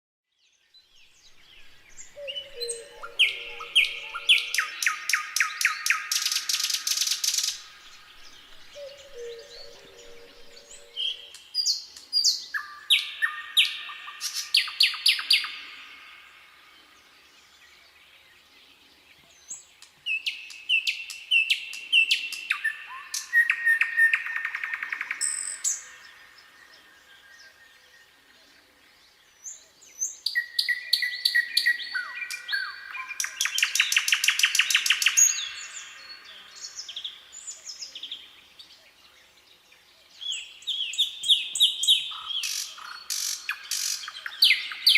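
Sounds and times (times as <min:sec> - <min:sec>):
nightingale singing: 0:00.5 - 0:44.9.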